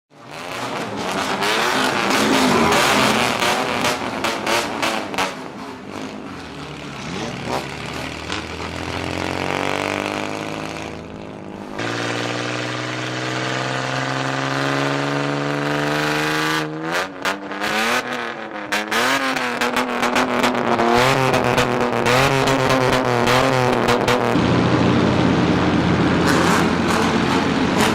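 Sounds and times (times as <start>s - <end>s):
loud car exhausts revving: 0.2s - 27.9s.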